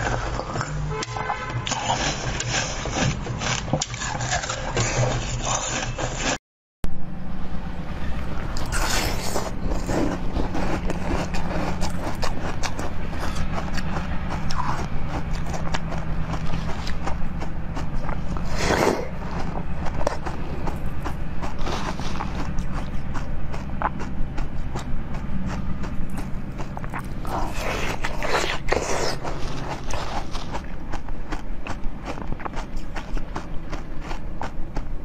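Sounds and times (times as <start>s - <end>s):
chewing and biting food: 0.0s - 6.3s, 8.2s - 35.0s.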